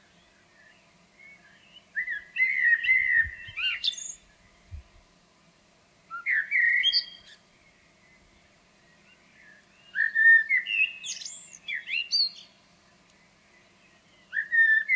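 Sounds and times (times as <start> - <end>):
blackbird singing: 0.1 - 4.6, 6.1 - 12.6, 13.2 - 14.9.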